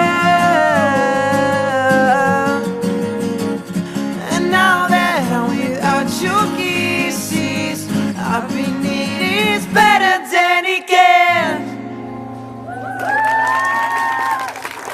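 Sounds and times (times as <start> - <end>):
person singing: 0.0 - 12.0
acoustic guitar: 0.0 - 14.5.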